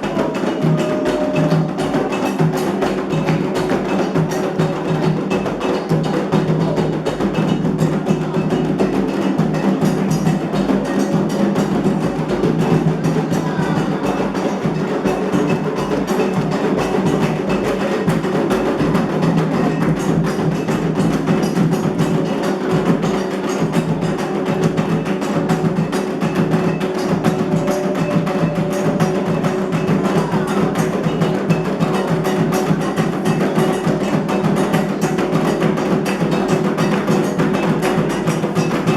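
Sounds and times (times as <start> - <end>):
hand drums playing: 0.0 - 38.9
struck bell rhythm: 0.0 - 38.9.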